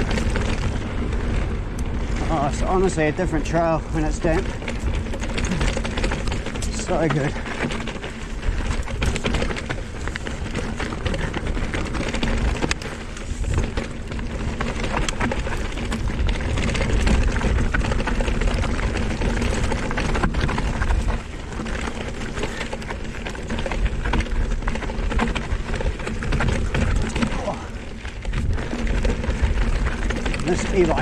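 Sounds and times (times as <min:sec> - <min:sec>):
bike clicking and rattling: 0:00.0 - 0:31.0
tyre rumble on gravel: 0:00.0 - 0:31.0.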